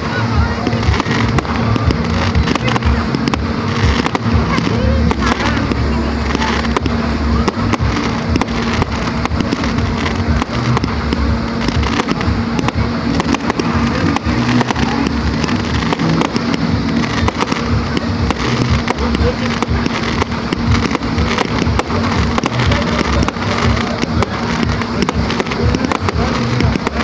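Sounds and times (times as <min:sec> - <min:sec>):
fireworks bangs and crackling: 0:00.0 - 0:27.0
steady low hum: 0:00.0 - 0:27.0.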